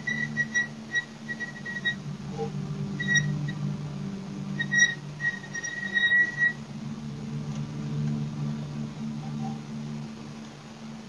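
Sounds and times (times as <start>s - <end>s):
high steady whistling tone: 0.0s - 11.0s
low steady hum: 0.0s - 11.0s.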